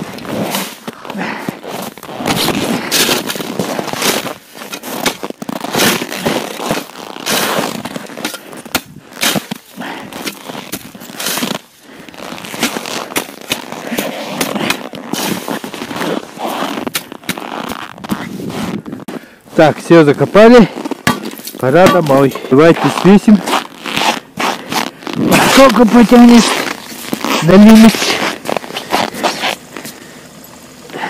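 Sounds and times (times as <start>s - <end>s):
shovel scraping snow and ice: 0.0s - 30.0s.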